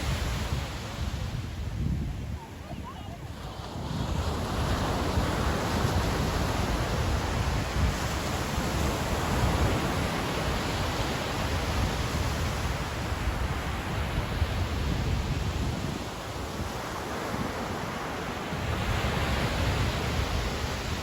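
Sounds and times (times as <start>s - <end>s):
ocean surf on sandy beach: 0.0s - 21.0s.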